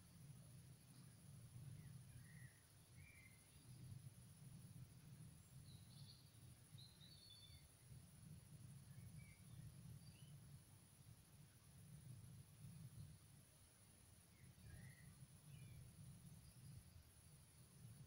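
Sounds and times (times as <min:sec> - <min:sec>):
low steady rumble: 0:00.0 - 0:18.0
faint bird chirps: 0:00.1 - 0:10.6, 0:12.6 - 0:13.4, 0:14.0 - 0:18.0.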